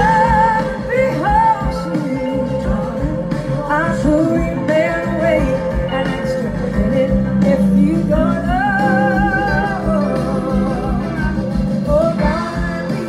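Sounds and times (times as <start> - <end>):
guitar: 0.0 - 13.0
woman singing: 0.0 - 13.0.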